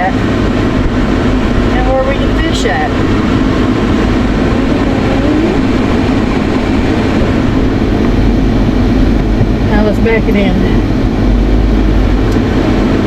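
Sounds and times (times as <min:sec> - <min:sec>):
vehicle running inside cabin: 0:00.0 - 0:13.0.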